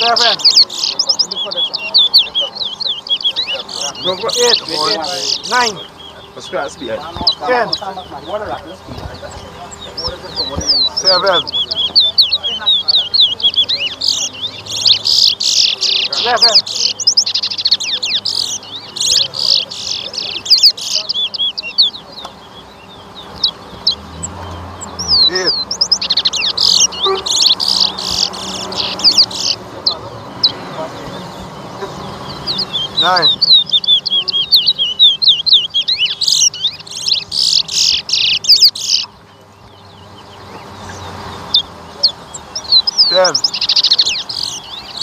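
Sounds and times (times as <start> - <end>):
finches singing: 0.0 - 45.0.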